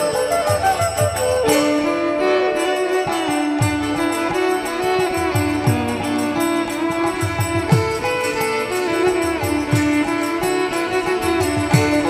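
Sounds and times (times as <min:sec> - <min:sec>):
hand drum strokes: 0:00.0 - 0:12.0
metallic cymbal clashes: 0:00.0 - 0:12.0.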